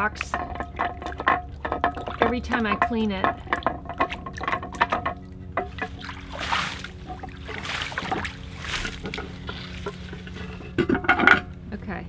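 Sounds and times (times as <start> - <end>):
hand scrubbing rock: 0.0 - 11.2
water sloshing and splashing: 0.0 - 11.6.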